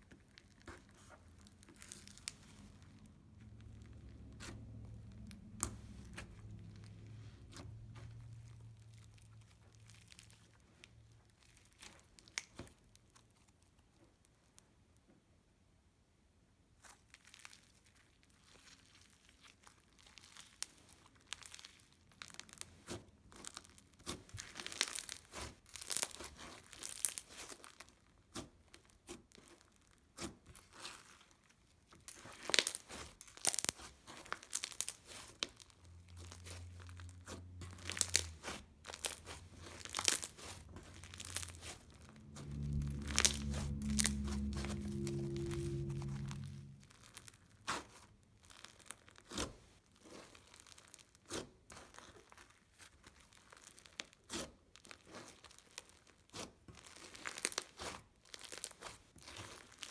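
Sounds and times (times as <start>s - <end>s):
slime crackling and popping: 0.0s - 14.3s, 16.8s - 59.9s.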